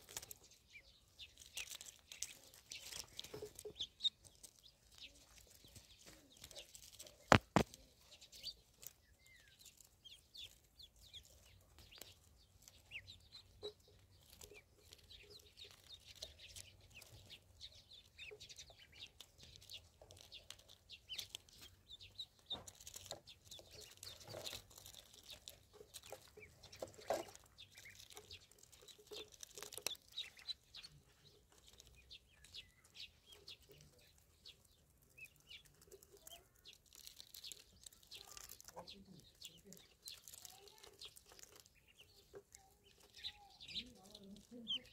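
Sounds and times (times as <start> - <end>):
ducklings peeping: 0.0 - 44.9.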